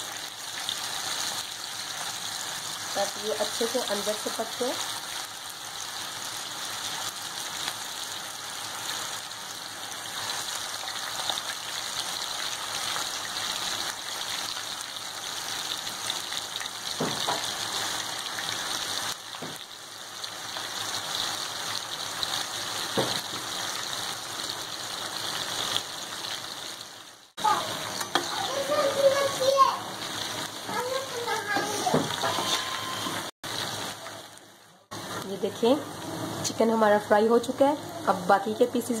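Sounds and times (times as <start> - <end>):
oil sizzling: 0.0 - 39.0.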